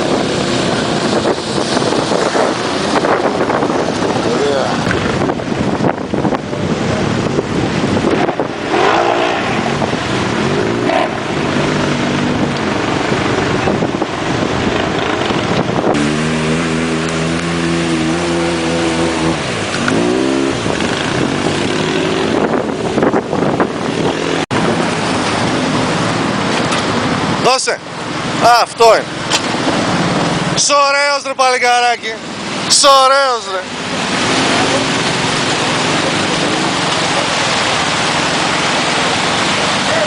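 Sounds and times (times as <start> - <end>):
loud rushing noise: 0.0 - 30.7, 32.2 - 40.0
atv engine revving: 0.0 - 31.1, 32.2 - 40.0.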